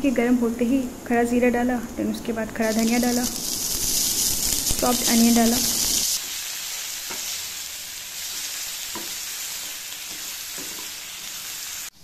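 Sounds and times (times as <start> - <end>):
onions sizzling in hot oil: 0.3 - 12.0.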